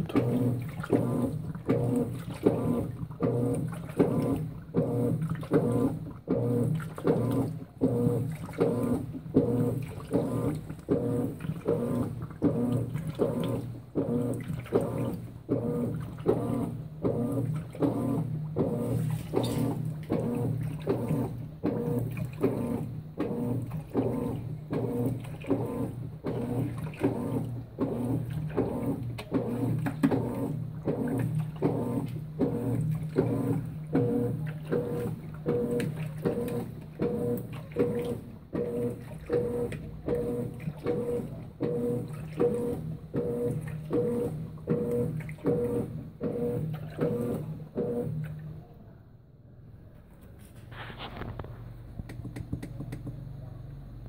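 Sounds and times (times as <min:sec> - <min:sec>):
water and bedding sloshing: 0:00.0 - 0:48.9, 0:49.9 - 0:54.0
washing machine motor humming: 0:00.0 - 0:54.0.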